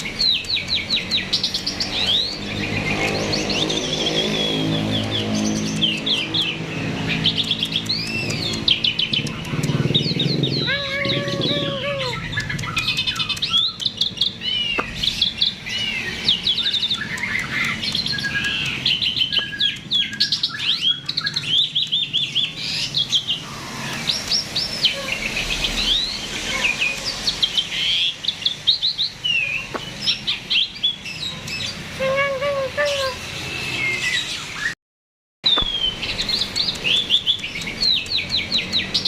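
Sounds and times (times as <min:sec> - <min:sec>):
starling singing: 0:00.0 - 0:34.7, 0:35.5 - 0:39.0.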